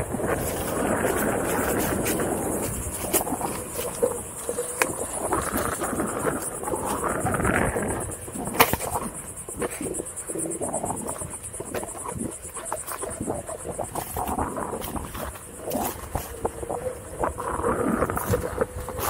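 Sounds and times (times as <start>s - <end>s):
insects chorus: 0.0s - 19.0s
wheel rolling on bumpy dirt: 0.0s - 19.0s.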